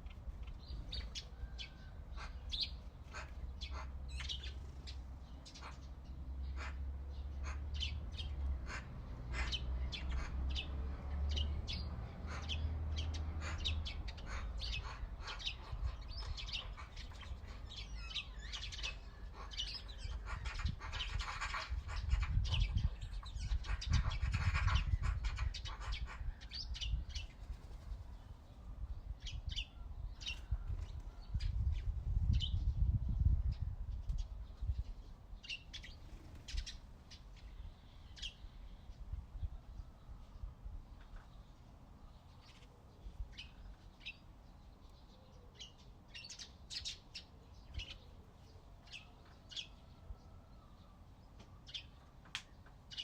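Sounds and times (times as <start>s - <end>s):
birds chirping and singing: 0.0s - 53.0s.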